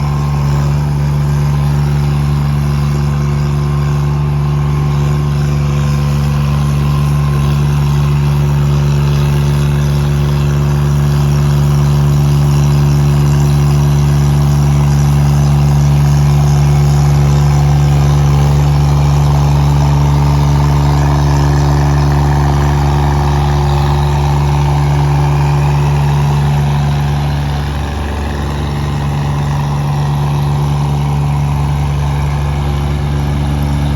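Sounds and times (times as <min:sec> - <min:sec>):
road roller engine running: 0:00.0 - 0:33.9.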